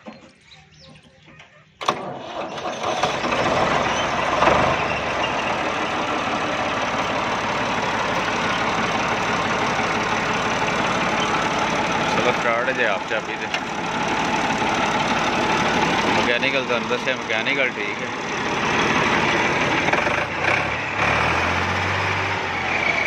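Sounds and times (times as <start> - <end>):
tractor engine starting and running: 0.0 - 23.0.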